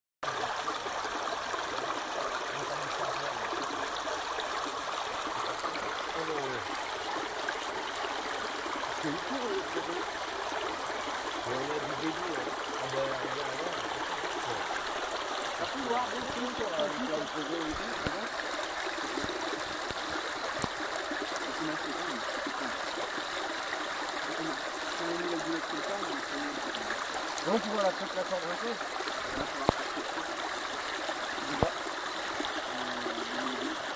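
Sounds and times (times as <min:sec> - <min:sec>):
stream water rushing: 0:00.2 - 0:33.9.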